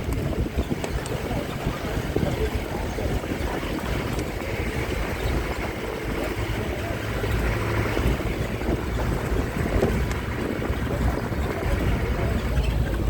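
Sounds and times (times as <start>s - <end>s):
bus engine and road rumble: 0.0s - 13.0s
wind buffeting microphone: 0.0s - 13.0s.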